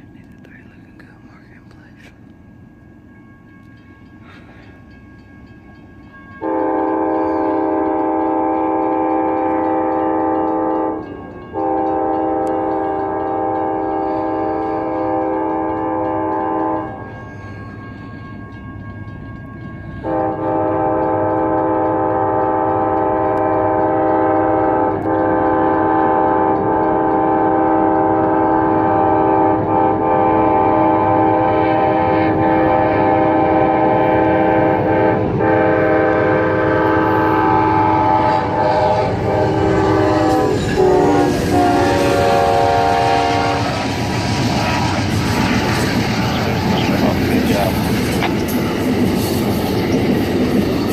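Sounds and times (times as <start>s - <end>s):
train rumbling and clattering past: 0.0s - 50.9s
loud locomotive horn: 6.4s - 18.8s, 20.0s - 49.4s.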